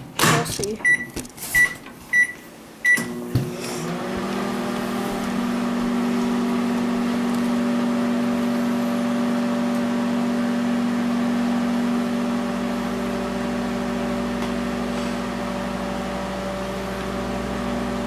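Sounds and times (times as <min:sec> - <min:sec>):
microwave oven humming: 0:00.8 - 0:18.0.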